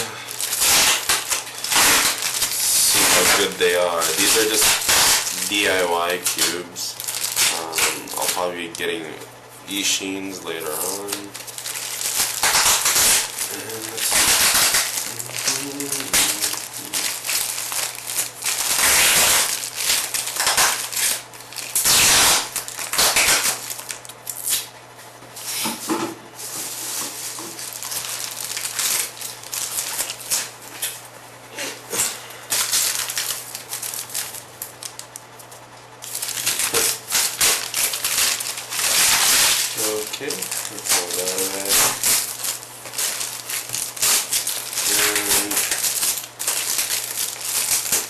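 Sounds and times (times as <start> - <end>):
packaging crinkling and rustling: 0.0 - 9.0, 9.7 - 24.6, 26.4 - 31.1, 31.9 - 48.0
low electrical hum: 0.0 - 48.0.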